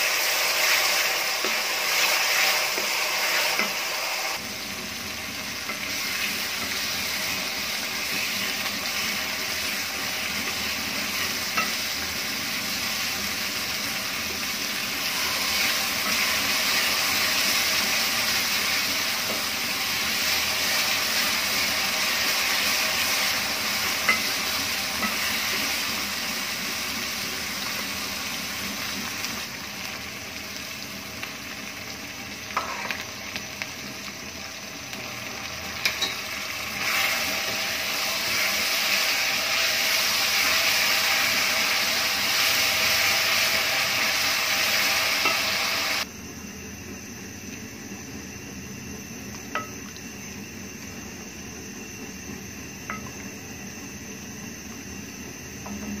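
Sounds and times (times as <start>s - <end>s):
food sizzling in hot oil: 0.0s - 46.1s, 47.2s - 56.0s.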